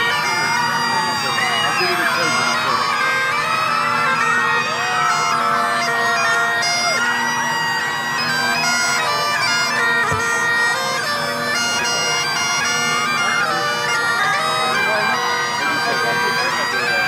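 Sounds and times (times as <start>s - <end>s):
bagpipes playing a tune: 0.0s - 17.0s.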